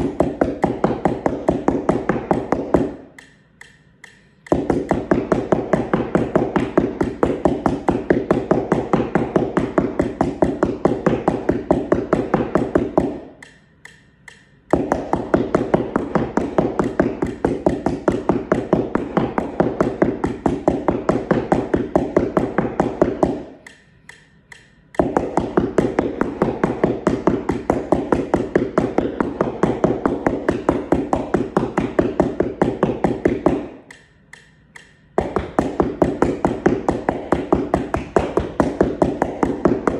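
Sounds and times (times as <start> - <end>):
mallets tapping cardboard: 0.0 - 39.9.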